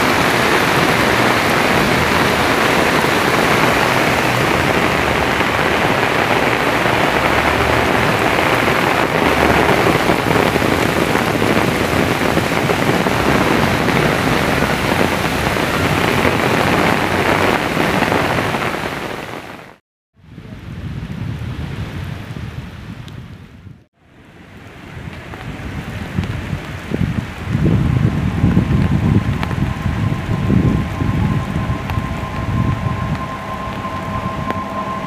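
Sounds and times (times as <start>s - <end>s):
heavy rain hissing: 0.0s - 19.8s, 24.2s - 35.0s.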